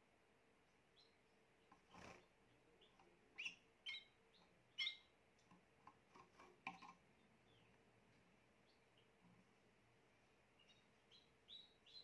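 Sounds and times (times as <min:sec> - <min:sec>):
canary chirps: 0:00.9 - 0:12.0.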